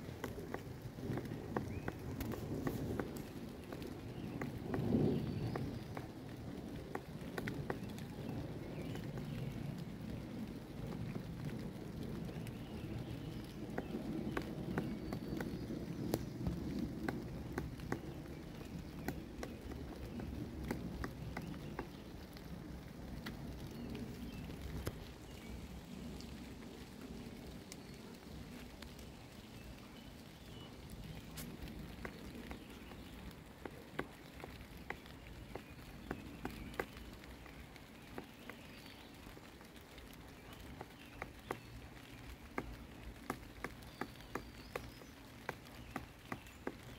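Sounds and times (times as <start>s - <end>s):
woodpecker tapping on bark: 0.0s - 9.4s, 12.3s - 22.5s, 23.2s - 26.3s, 30.5s - 46.9s.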